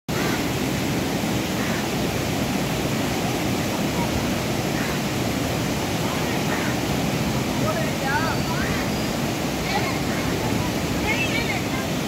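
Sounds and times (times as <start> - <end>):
water rushing over rocks: 0.1 - 12.0.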